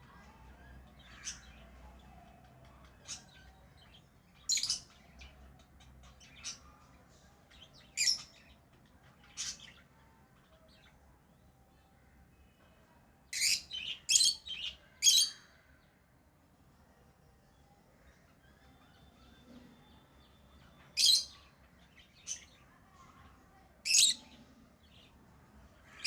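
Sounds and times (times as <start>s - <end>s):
birds chirping high-pitched: 0.0s - 11.5s, 13.3s - 15.7s, 18.0s - 26.0s.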